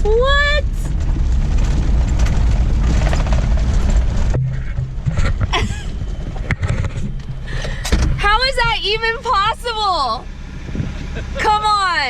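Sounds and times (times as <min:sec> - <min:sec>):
car rumbling on the move: 0:00.0 - 0:12.0
low engine hum: 0:00.0 - 0:12.0.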